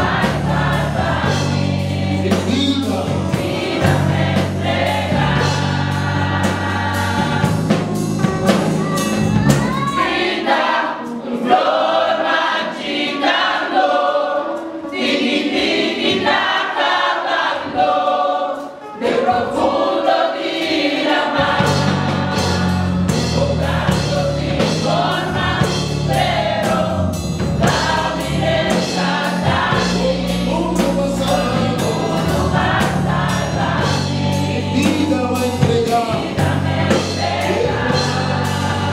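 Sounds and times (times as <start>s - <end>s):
choir singing a hymn: 0.0s - 38.9s
instrumental accompaniment: 0.0s - 38.9s.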